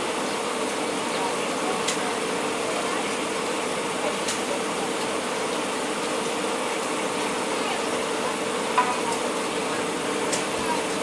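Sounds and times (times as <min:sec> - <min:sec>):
train coach rolling: 0:00.0 - 0:11.0.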